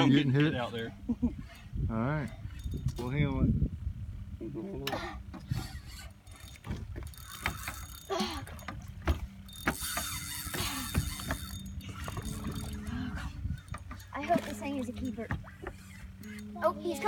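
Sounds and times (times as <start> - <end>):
low steady hum: 0.0 - 17.0
fishing reel ratcheting: 0.4 - 3.2, 5.4 - 17.0.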